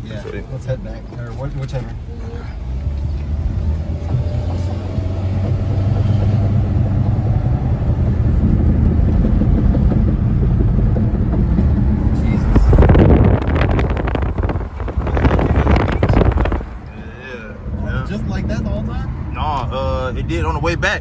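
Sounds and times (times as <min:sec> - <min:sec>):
car driving with road noise: 0:00.0 - 0:21.0
wheel bearing drone: 0:01.6 - 0:21.0.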